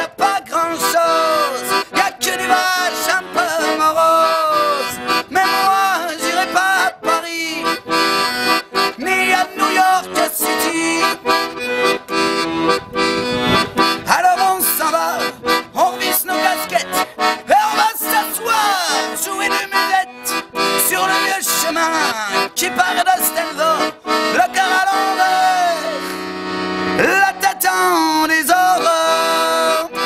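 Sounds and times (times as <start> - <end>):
accordion melody: 0.0 - 30.0
steady rhythmic beat: 0.8 - 27.2.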